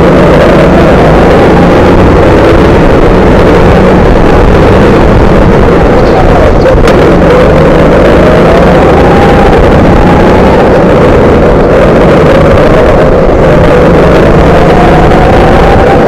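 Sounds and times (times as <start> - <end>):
go-kart motor running: 0.0 - 16.0.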